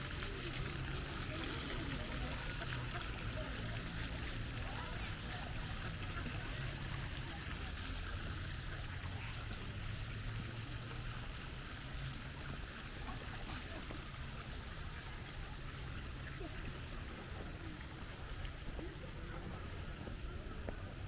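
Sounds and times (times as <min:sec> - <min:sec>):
fountain water splashing: 0:00.0 - 0:21.0
people's voices: 0:00.0 - 0:21.0.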